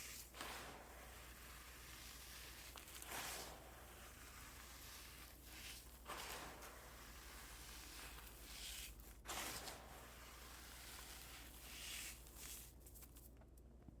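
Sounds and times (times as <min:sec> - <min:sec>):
cornstarch pieces crunching: 0:00.0 - 0:13.4.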